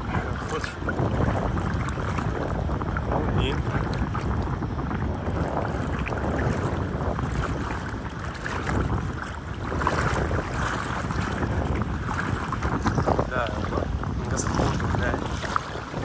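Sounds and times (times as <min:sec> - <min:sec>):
legs wading through water: 0:00.0 - 0:16.0
wind buffeting microphone: 0:00.0 - 0:16.0.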